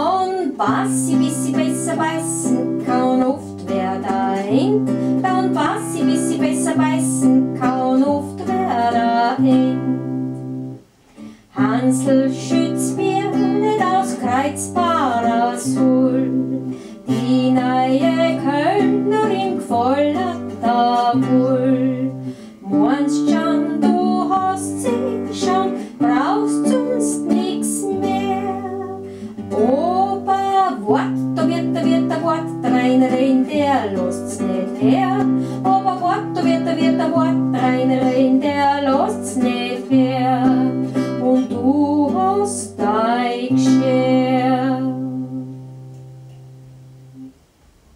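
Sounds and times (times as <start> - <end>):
acoustic guitar folk tune: 0.0 - 47.7.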